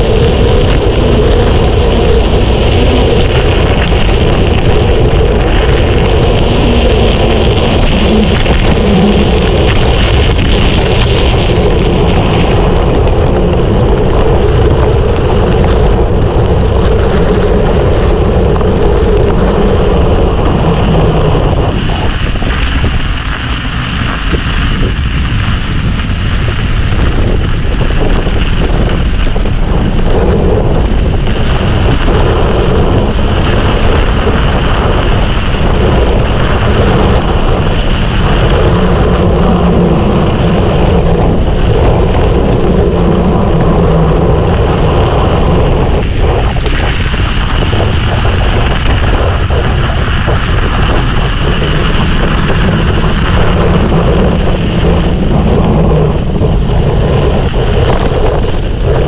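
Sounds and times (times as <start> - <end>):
bike tyres rolling on trail: 0.0 - 59.0
wind buffeting microphone: 0.0 - 59.0.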